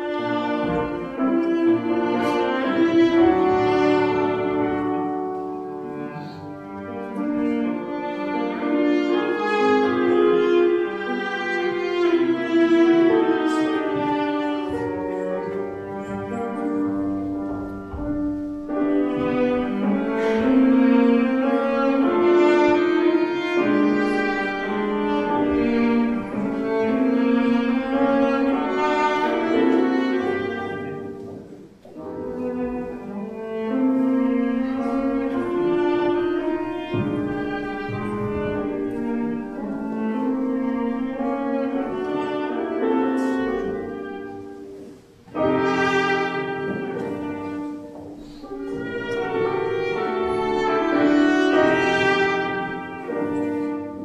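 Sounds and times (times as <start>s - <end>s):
bowed strings: 0.0s - 54.0s
cello: 0.0s - 54.0s
piano: 0.0s - 54.0s.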